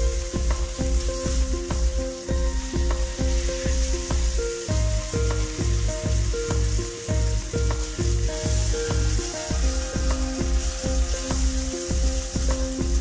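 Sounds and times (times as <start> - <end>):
background music with beat: 0.0 - 13.0
bacon sizzling in fat: 0.0 - 13.0
spatula stirring: 0.0 - 13.0.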